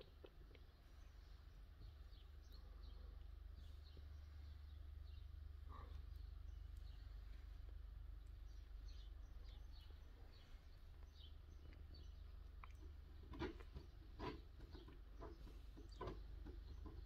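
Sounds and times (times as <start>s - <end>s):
faint small birds chirping: 0.0s - 17.0s
low steady hum: 0.0s - 17.0s.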